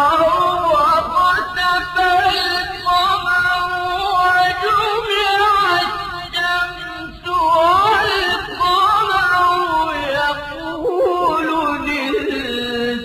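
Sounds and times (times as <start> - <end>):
person chanting melodic recitation: 0.0 - 13.0.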